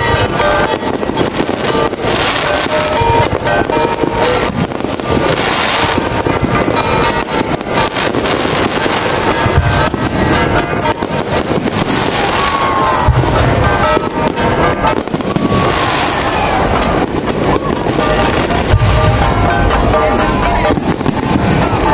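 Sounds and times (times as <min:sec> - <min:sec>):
fireworks bangs and crackling: 0:00.0 - 0:21.9
music playing: 0:00.0 - 0:21.9.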